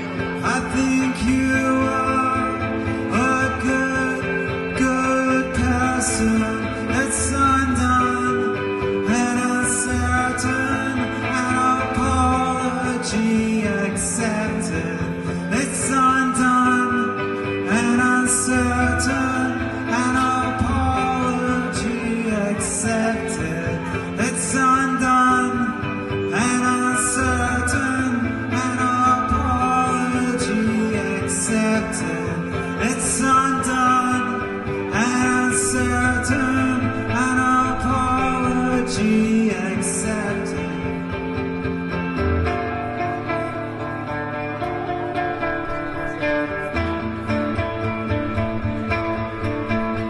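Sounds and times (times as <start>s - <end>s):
electric guitar: 0.0s - 50.0s
man singing: 0.0s - 50.0s.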